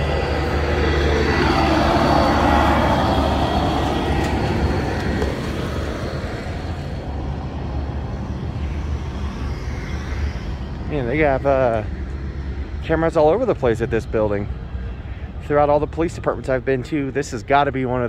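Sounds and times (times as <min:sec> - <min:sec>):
road vehicle passing: 0:00.0 - 0:16.9
steady low rumble: 0:00.0 - 0:18.0.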